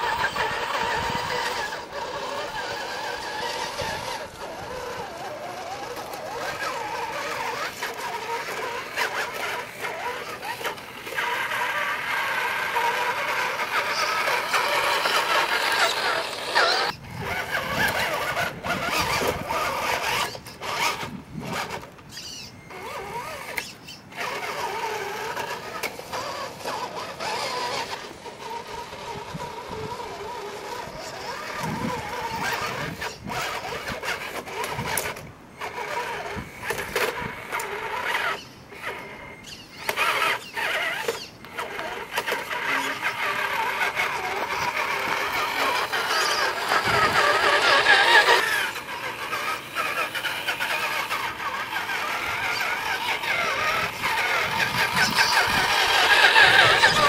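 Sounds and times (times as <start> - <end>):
toy car electric motor whining: 0.0 - 57.0.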